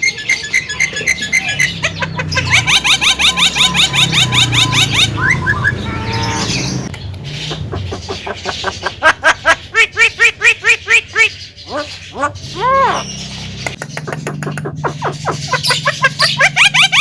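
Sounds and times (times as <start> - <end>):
myna whistled calls: 0.0 - 17.0.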